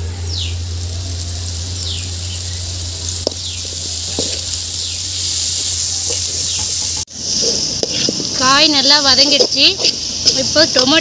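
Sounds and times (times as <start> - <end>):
steady low hum: 0.0 - 11.0
vegetables sizzling in a pan: 0.0 - 11.0.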